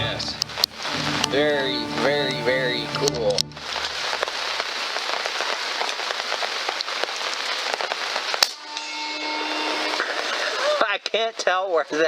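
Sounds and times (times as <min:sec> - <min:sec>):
crackling hiss: 0:00.0 - 0:12.0.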